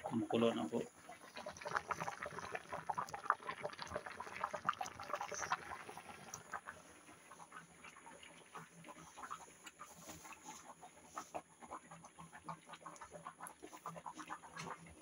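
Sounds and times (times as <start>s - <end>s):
rice bubbling and popping: 0.0s - 15.0s.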